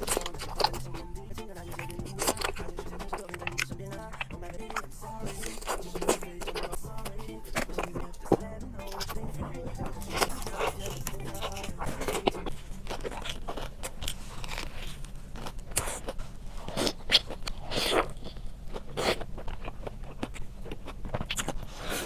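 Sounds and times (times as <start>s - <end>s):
crunchy biting and chewing: 0.0s - 22.0s.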